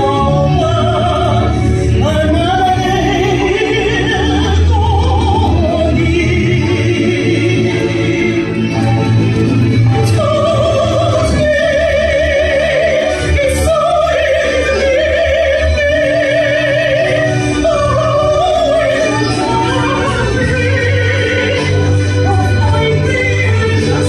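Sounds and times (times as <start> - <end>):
person singing with wide vibrato: 0.0 - 24.0.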